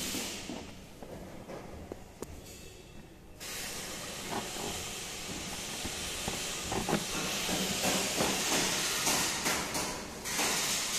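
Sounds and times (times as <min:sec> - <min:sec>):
steady hiss: 0:00.0 - 0:01.1, 0:02.0 - 0:10.9.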